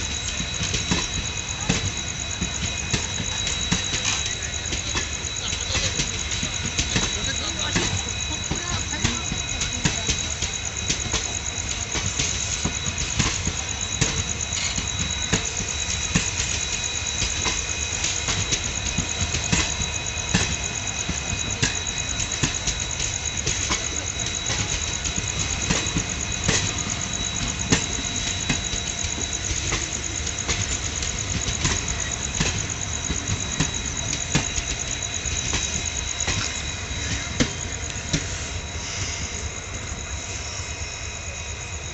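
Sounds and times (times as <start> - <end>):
train wheels clattering over rail joints: 0.0 - 39.3
train rumble: 0.0 - 41.9.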